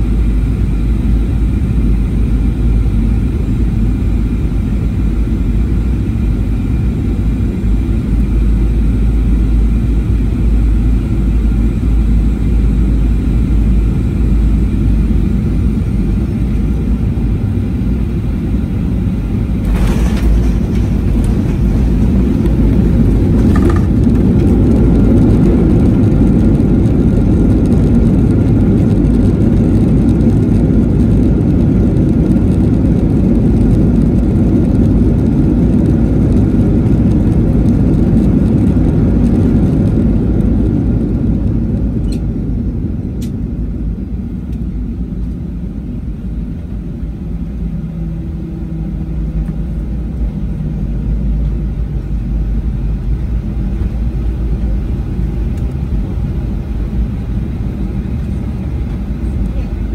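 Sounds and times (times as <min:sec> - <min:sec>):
jet cabin rumble and roar: 0:00.0 - 0:59.9.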